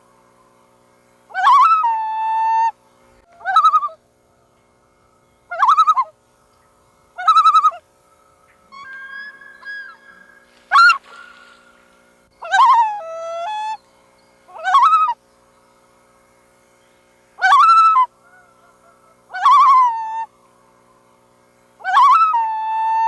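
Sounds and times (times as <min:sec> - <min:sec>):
loons calling: 0:01.2 - 0:16.1, 0:16.8 - 0:23.0.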